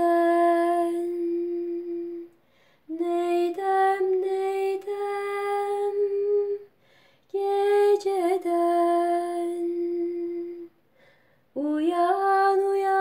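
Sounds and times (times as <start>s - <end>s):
woman singing unaccompanied: 0.0s - 6.7s, 7.3s - 10.8s, 11.6s - 13.0s.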